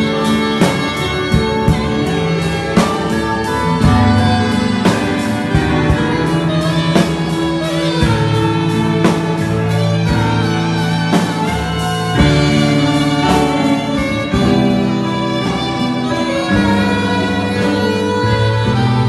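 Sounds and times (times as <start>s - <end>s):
instrumental music with beat: 0.0s - 19.0s.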